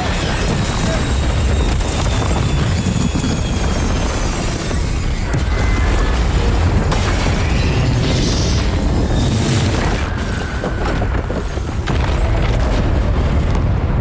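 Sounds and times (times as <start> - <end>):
high metallic whines: 0.0 - 11.7
heavy low rumble with booms: 0.0 - 14.0.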